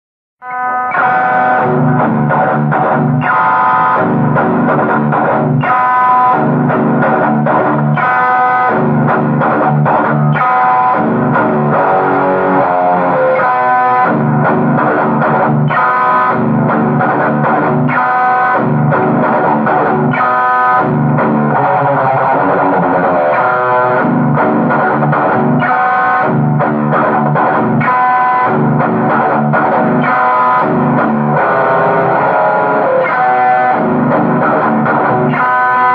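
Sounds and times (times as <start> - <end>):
plucked guitar riff: 0.4 - 35.9.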